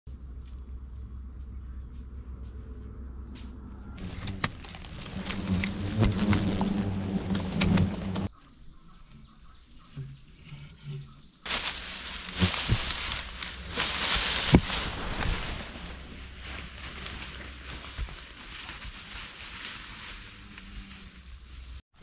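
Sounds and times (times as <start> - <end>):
high-pitched insect chorus: 0.1 - 6.9, 8.3 - 15.5, 16.2 - 22.0
hornets buzzing: 2.2 - 8.4, 9.4 - 21.8.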